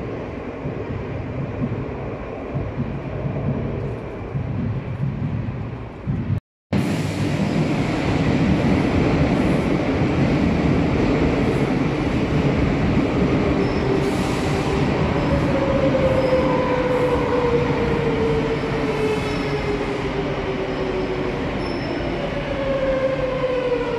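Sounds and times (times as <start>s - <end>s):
train wheels rumbling: 0.0s - 23.9s.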